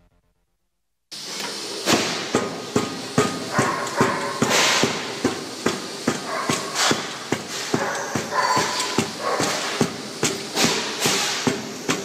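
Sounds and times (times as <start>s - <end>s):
steady machine hum: 1.1s - 12.0s.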